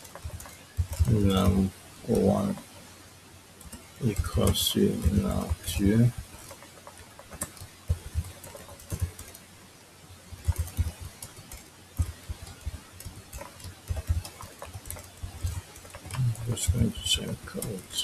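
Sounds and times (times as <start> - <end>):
typing on keyboard: 0.0 - 2.8, 3.6 - 9.6, 10.3 - 18.0.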